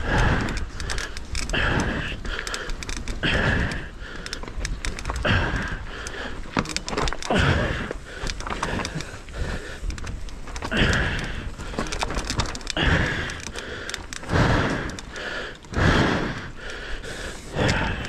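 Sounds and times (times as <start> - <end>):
bike parts rattling and clicking: 0.0 - 18.0
person breathing hard: 0.0 - 18.0.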